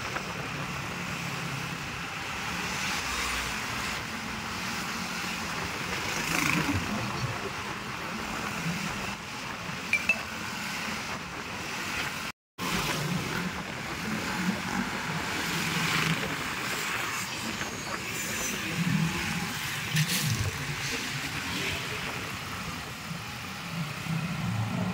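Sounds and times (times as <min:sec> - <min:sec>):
vehicle engine and road noise: 0:00.0 - 0:24.9.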